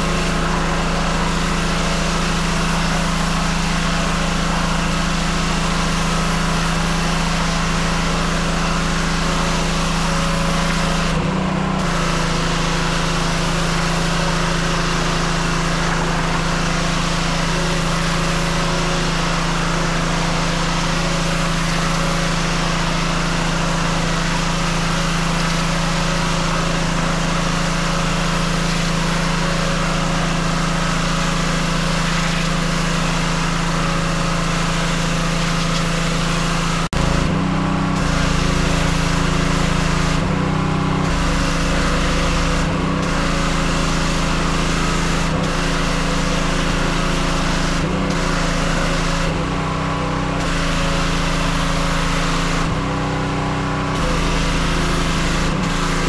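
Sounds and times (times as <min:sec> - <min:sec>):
high-pressure spray hissing on fence: 0:00.0 - 0:37.3, 0:38.0 - 0:40.3, 0:41.0 - 0:49.4, 0:50.4 - 0:52.8, 0:53.9 - 0:56.0
pressure washer engine humming: 0:00.0 - 0:56.0.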